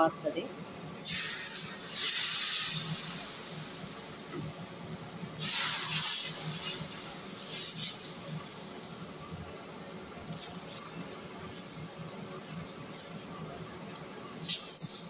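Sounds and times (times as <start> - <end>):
batter sizzling on hot pan: 1.0 - 15.0.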